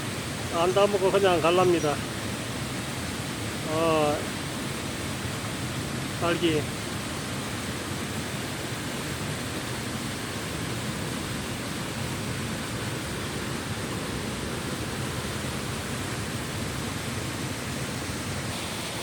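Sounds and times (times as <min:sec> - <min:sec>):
stream rushing water: 0:00.0 - 0:19.0.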